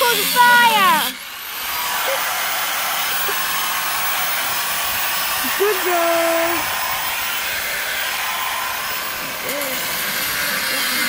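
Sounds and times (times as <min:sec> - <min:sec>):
angle grinder cutting steel: 0:00.0 - 0:11.0.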